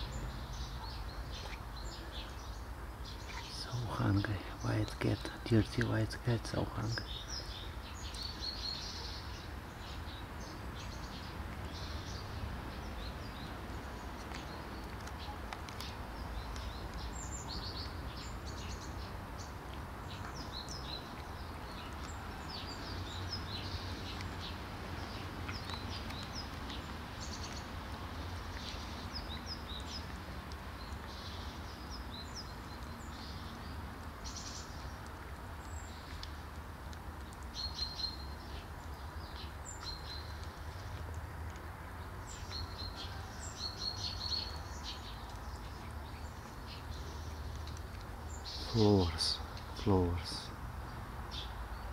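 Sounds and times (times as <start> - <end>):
low outdoor background hum: 0.0 - 51.9
small birds chirping: 0.0 - 51.9.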